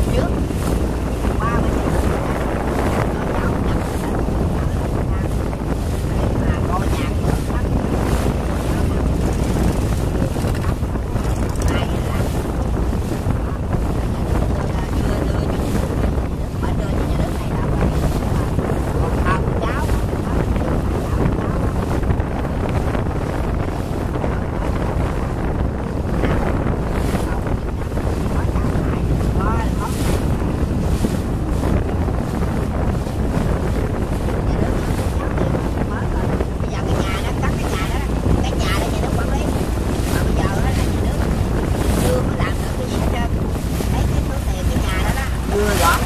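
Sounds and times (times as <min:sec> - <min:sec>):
motorboat engine running: 0:00.0 - 0:46.0
river water wash: 0:00.0 - 0:46.0
wind buffeting microphone: 0:00.0 - 0:46.0.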